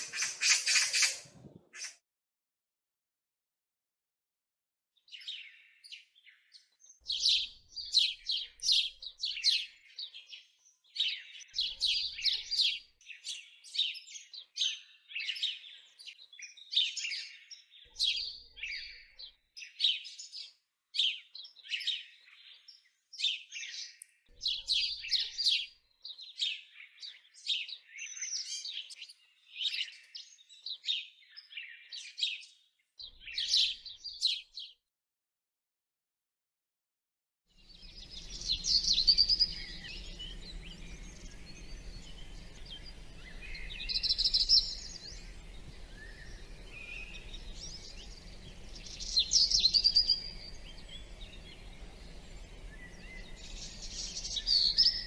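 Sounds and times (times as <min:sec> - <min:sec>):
songbirds chirping and twittering: 0:00.0 - 0:02.0, 0:05.0 - 0:34.8, 0:37.5 - 0:55.0.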